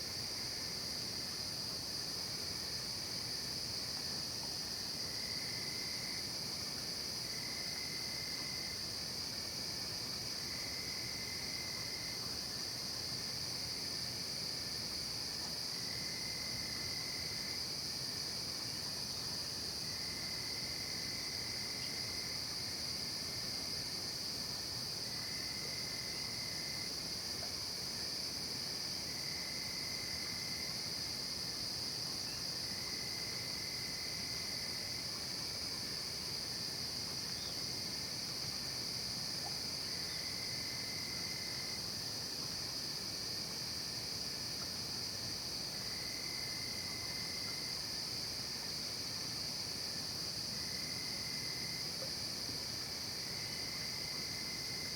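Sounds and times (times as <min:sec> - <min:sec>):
crickets trilling: 0:00.0 - 0:54.9
lower insect trill: 0:00.0 - 0:54.9.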